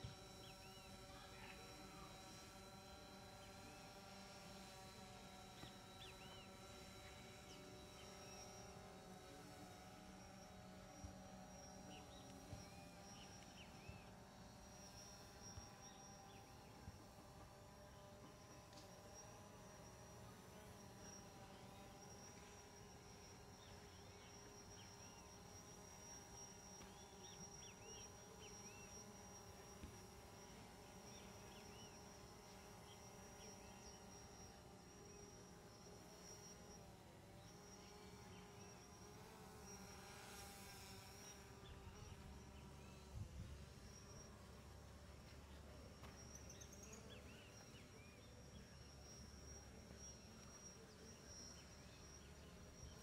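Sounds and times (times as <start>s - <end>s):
faint steady hum: 0.0s - 53.0s
steady high-pitched whine: 0.0s - 53.0s.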